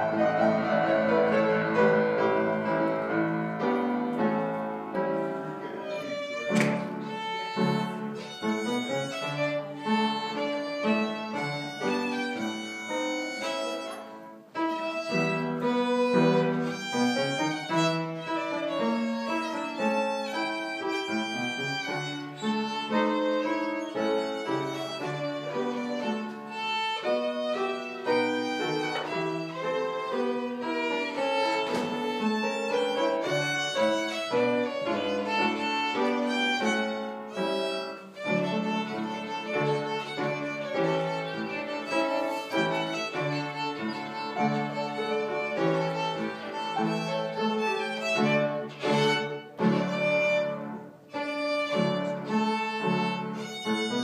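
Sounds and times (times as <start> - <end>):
bowed violin melody: 0.0 - 54.0.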